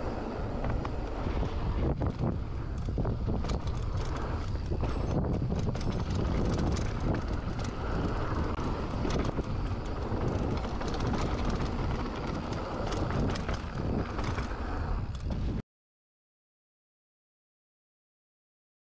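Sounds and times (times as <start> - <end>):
bike rattling: 0.0 - 15.6
wind buffeting on microphone: 0.0 - 15.6.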